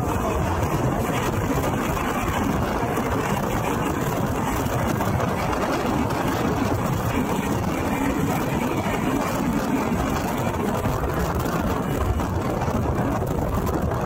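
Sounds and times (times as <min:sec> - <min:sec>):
train rumble and rail noise: 0:00.0 - 0:14.0.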